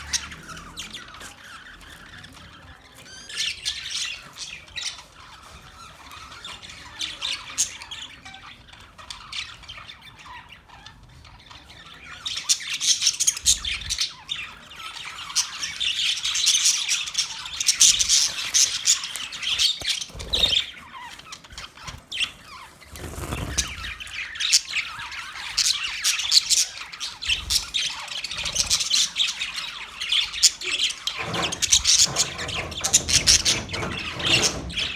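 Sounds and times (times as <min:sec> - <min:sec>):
budgerigars chirping and squawking: 0:00.0 - 0:34.9.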